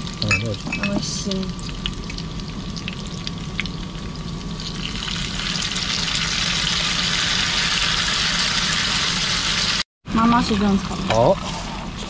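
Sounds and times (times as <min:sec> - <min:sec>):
food sizzling in a wok: 0:00.0 - 0:11.4.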